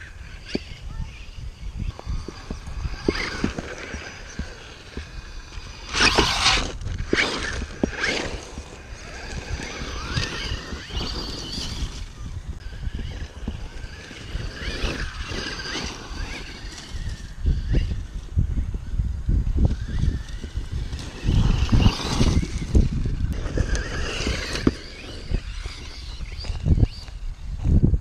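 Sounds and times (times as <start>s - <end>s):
electric motor whine: 0.0s - 28.0s
tyres spinning and spraying dirt: 1.8s - 27.8s.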